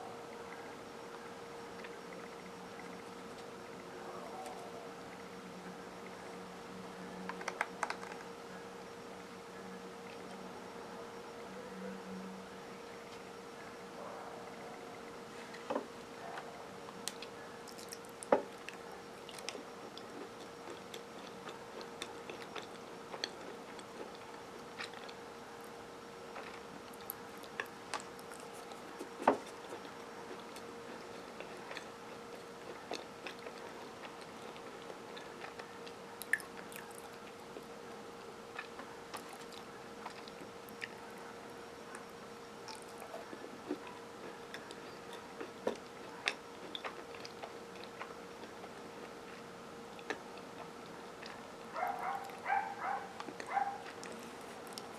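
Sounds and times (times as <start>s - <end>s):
faint steady hum: 0.0s - 54.9s
chewing and crunching cookies: 0.2s - 54.9s.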